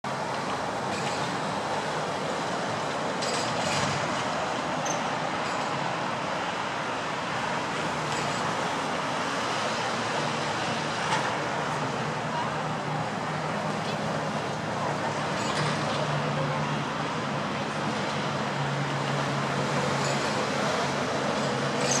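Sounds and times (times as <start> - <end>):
distant road traffic hum: 0.1 - 22.0.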